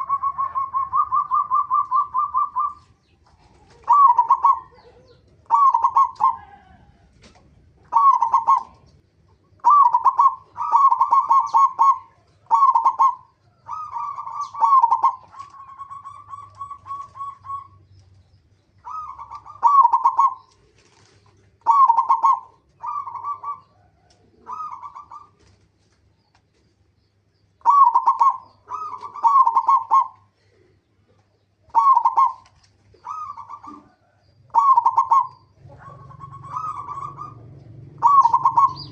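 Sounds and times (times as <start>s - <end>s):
dove cooing: 0.0s - 18.2s, 18.8s - 25.7s, 27.6s - 38.9s.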